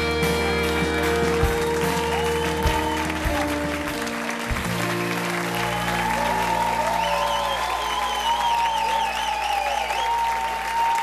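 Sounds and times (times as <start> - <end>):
audience applause and cheering: 0.0 - 11.0
crowd whistling: 0.0 - 11.0.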